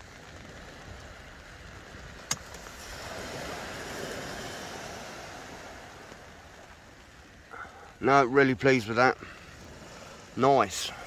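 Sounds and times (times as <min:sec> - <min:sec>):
small waves washing on sand: 0:00.0 - 0:11.0.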